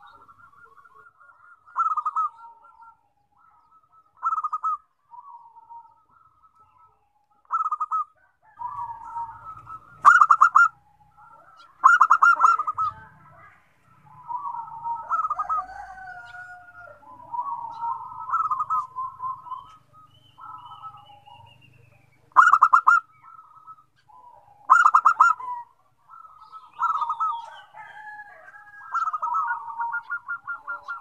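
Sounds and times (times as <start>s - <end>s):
doves cooing: 0.0s - 31.0s.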